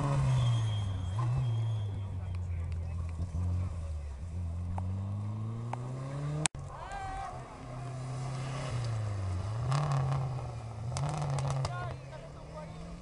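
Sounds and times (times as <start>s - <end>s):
rally car engine accelerating: 0.0s - 6.6s, 7.3s - 13.0s
rally car passing: 0.0s - 13.0s.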